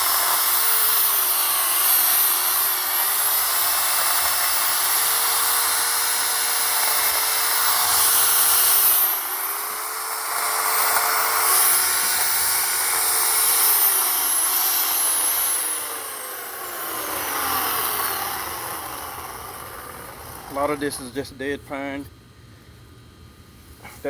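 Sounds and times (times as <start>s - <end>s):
electric chainsaw cutting limbs: 0.0s - 21.9s.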